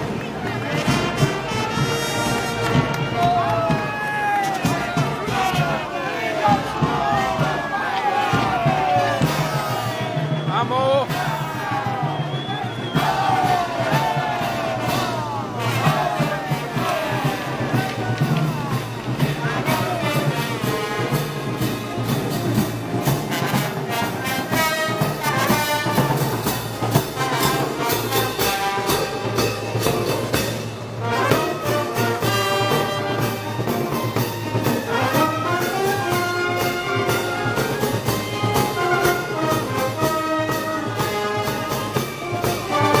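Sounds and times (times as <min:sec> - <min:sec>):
brass band playing: 0:00.0 - 0:43.0.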